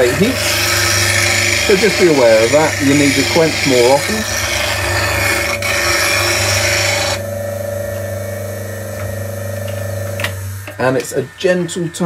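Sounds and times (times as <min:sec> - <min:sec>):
steel grinding on grinder wheel: 0:00.0 - 0:11.1
grinder motor humming: 0:00.0 - 0:12.0.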